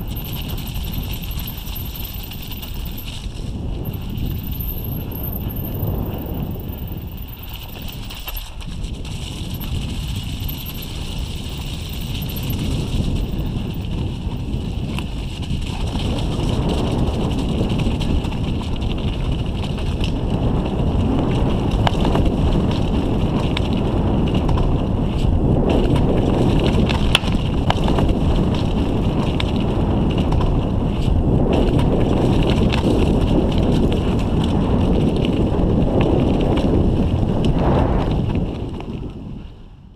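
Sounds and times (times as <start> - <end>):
bike tyres rumbling and rattling: 0.0 - 39.9
wind buffeting microphone: 0.0 - 39.9.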